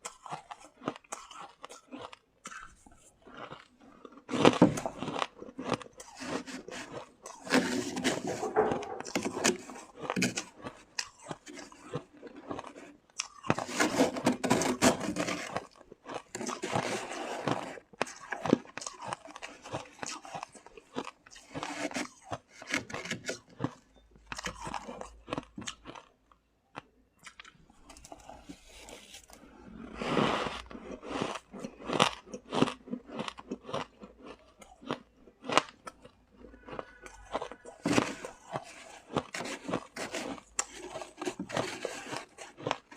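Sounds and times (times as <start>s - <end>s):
shaved ice crunching when chewed: 0.0s - 26.2s, 26.8s - 42.9s.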